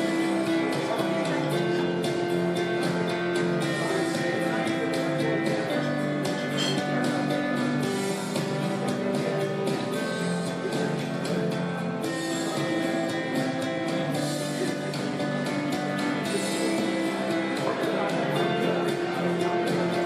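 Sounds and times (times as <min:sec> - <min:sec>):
guitar background music: 0:00.0 - 0:20.0.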